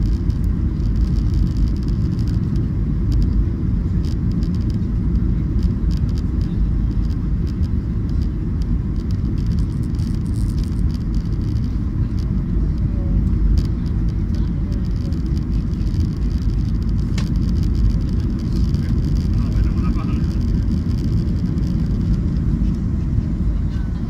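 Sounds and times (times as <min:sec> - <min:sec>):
light clicks and rattles: 0:00.0 - 0:23.0
airliner cabin rumble: 0:00.0 - 0:24.0.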